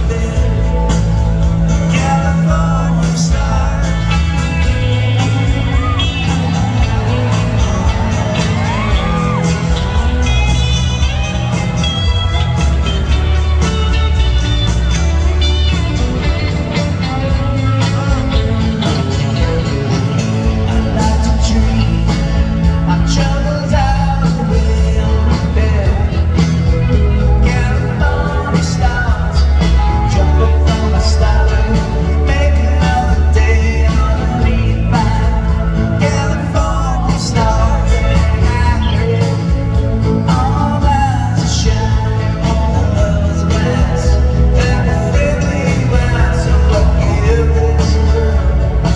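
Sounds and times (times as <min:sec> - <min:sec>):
bass guitar: 0:00.0 - 0:48.9
drums: 0:00.0 - 0:48.9
live rock band: 0:00.0 - 0:48.9.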